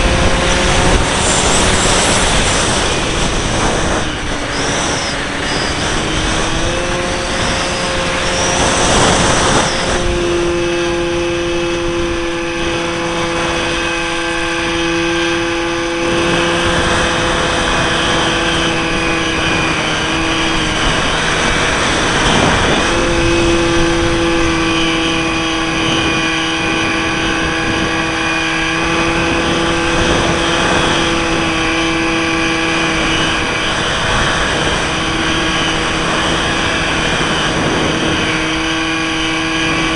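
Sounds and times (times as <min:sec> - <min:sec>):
model aeroplane motor whine: 0:00.0 - 0:39.9
wind rushing over microphone: 0:00.0 - 0:39.9.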